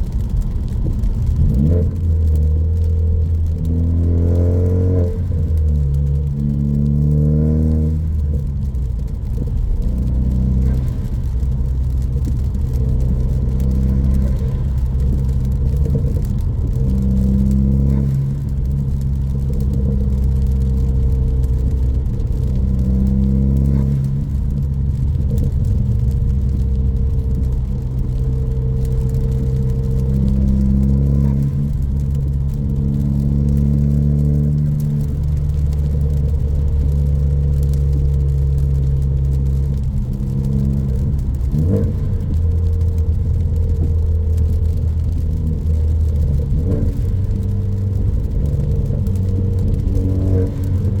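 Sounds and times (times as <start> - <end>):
car exhaust drone: 0.0 - 51.0.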